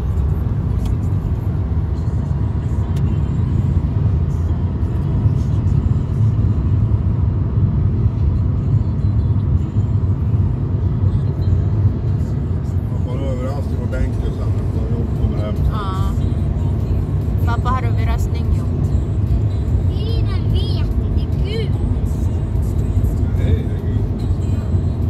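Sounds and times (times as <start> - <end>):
car cabin road and engine rumble: 0.0 - 25.0.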